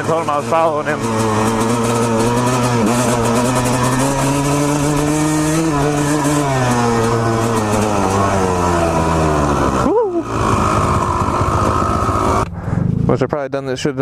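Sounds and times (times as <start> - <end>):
two-stroke dirt bike engine: 0.0 - 13.3.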